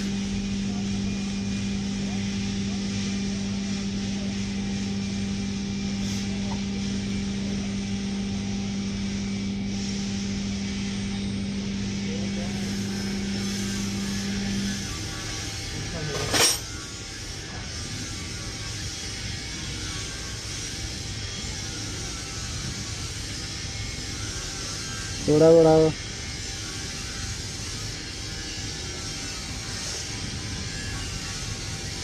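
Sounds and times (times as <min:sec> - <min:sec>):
welding arc buzzing: 0:00.0 - 0:32.0.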